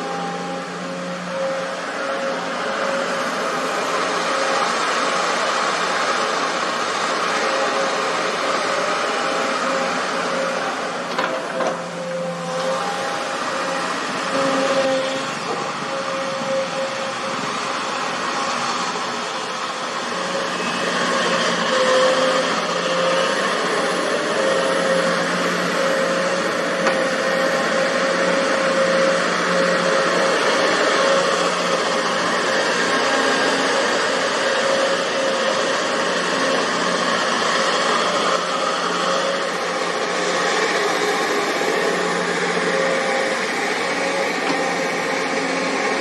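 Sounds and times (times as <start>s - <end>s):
excavator engine running: 0.0s - 46.0s.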